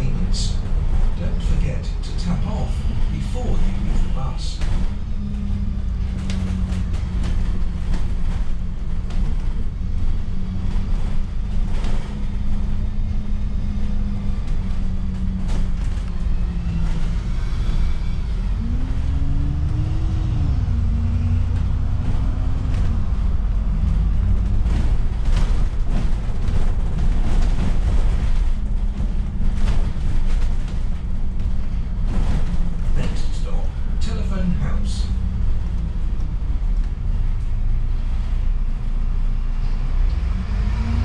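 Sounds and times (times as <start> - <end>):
body rattles and knocks: 0.0 - 17.8, 18.6 - 39.3
bus engine hum: 0.0 - 41.0
road rumble: 0.0 - 41.0.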